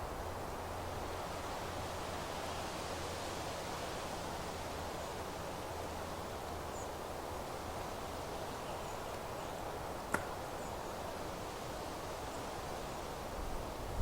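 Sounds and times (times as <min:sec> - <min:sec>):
rustling meadow: 0:00.0 - 0:14.0.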